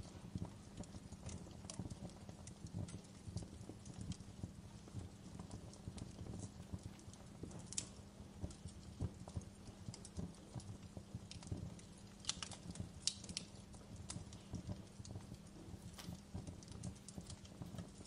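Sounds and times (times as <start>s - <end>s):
fire crackling and popping: 0.0s - 18.0s
steady low hum: 0.0s - 18.0s.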